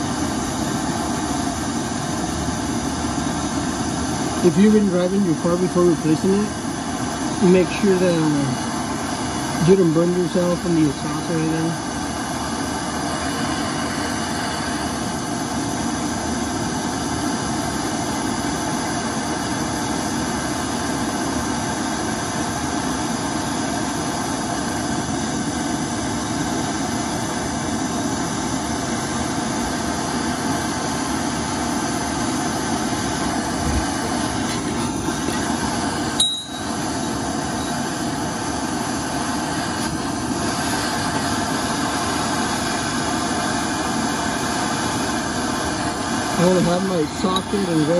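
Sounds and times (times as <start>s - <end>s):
gas torch flame burning: 0.0s - 47.9s.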